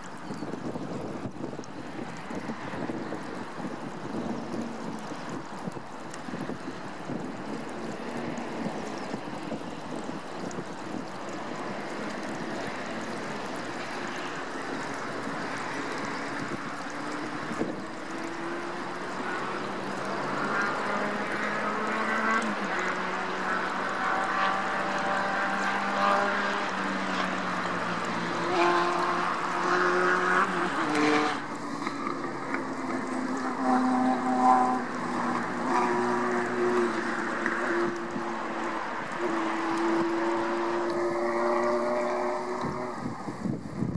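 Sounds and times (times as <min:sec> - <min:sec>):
wind-like outdoor hiss: 0:00.0 - 0:43.9
passing motor vehicle engine hum: 0:00.6 - 0:43.9.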